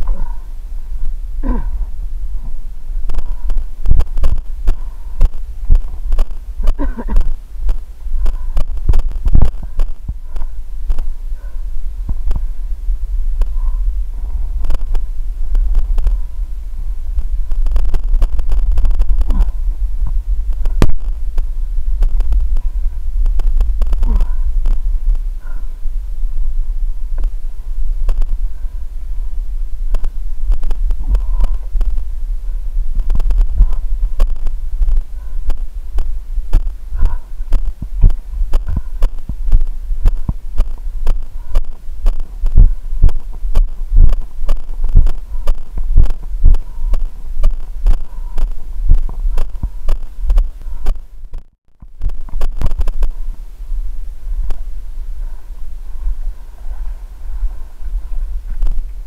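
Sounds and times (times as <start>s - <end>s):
microphone handling and wind rumble: 0.0s - 59.0s.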